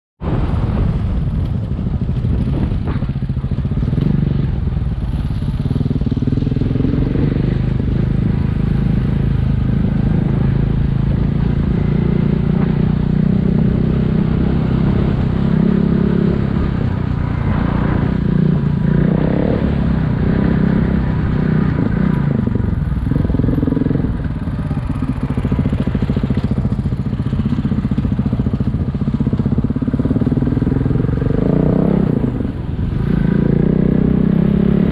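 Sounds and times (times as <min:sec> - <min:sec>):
motorcycle engine running: 0:00.3 - 0:34.9.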